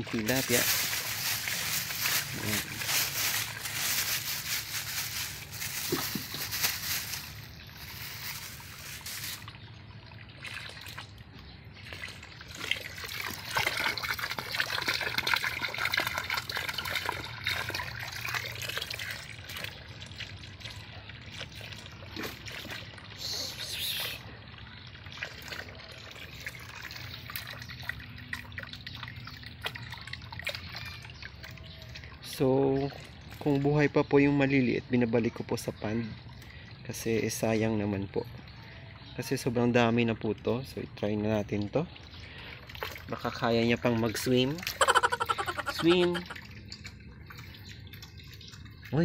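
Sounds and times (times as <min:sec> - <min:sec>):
water trickling from fish net: 0:00.0 - 0:49.0.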